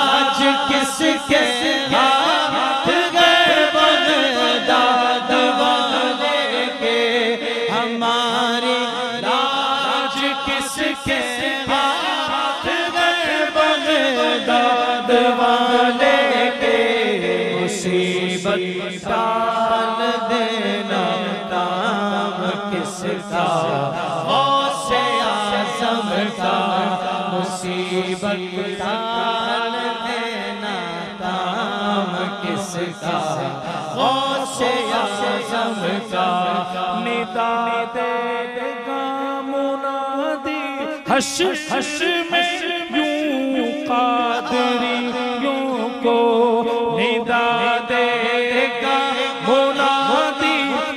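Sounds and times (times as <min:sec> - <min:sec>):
men chanting devotional song: 0:00.0 - 0:50.9.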